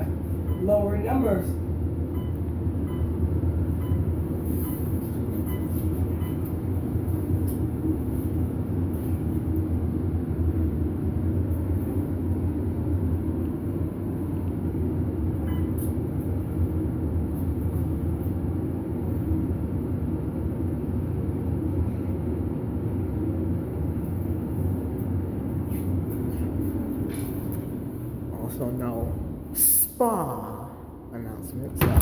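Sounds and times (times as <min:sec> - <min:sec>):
elevator low rumble: 0:00.0 - 0:32.0.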